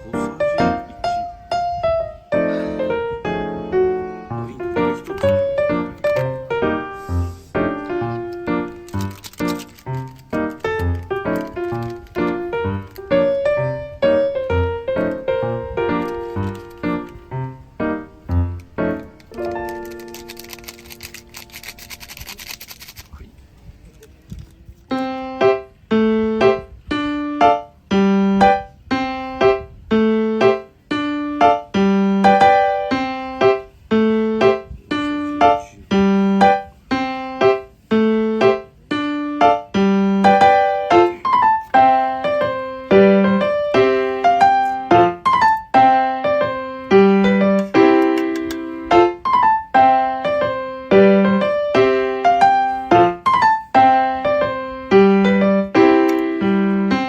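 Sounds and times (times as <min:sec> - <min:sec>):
piano melody: 0:00.0 - 0:22.2, 0:24.9 - 0:57.0.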